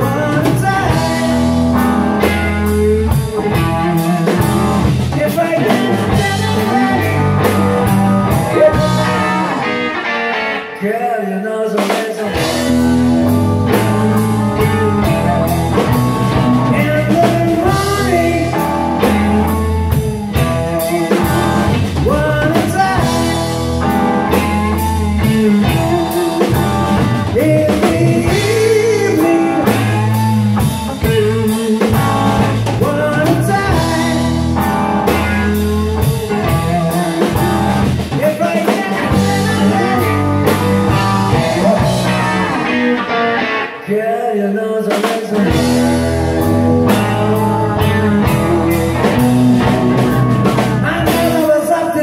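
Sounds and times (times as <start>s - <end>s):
drum kit: 0.0s - 10.8s, 11.7s - 43.8s, 44.8s - 52.0s
bass guitar: 0.0s - 11.2s, 11.8s - 44.0s, 45.0s - 52.0s
electric guitars: 0.0s - 52.0s
person singing lead vocal: 0.0s - 52.0s.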